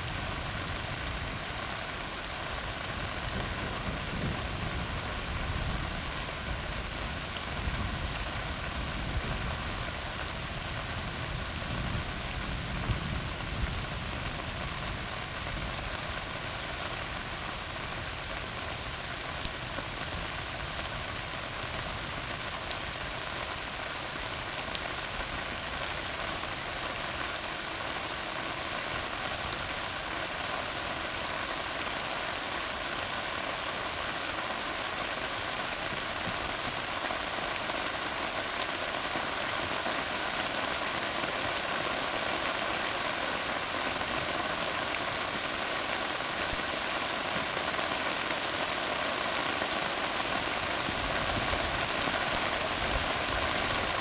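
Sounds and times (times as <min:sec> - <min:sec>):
rain on a road: 0:00.0 - 0:54.0.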